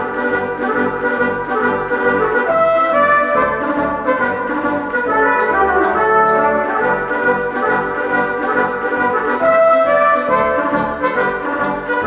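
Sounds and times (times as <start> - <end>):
brass music with beat: 0.0 - 12.0.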